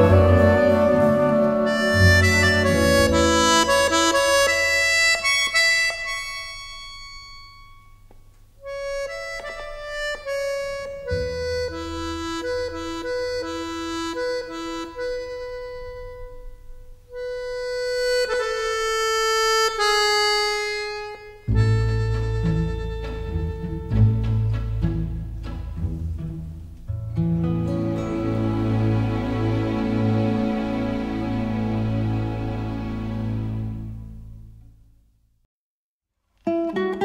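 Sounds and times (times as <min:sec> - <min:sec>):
free-reed instrument melody: 0:00.0 - 0:34.8
instrumental film music: 0:00.0 - 0:35.0.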